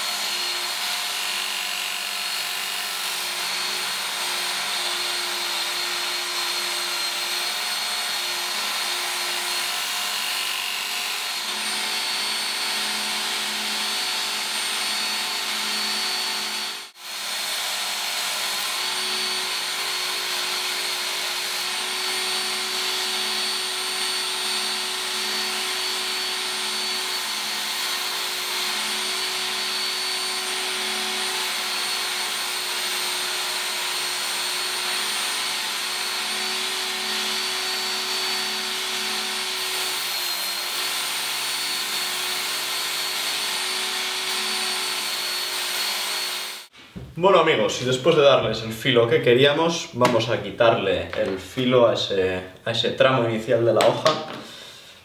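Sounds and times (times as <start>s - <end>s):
belt sharpener grinding blade: 0.0s - 46.7s.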